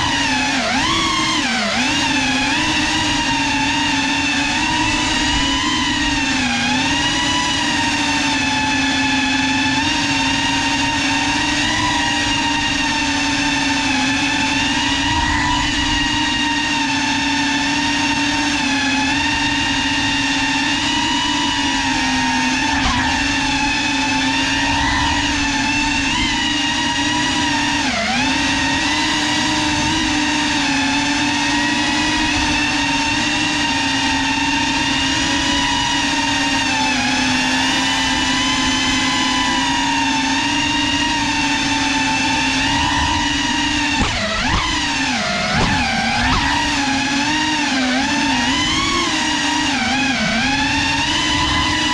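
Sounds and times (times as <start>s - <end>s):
drone motors whining: 0.0s - 51.9s.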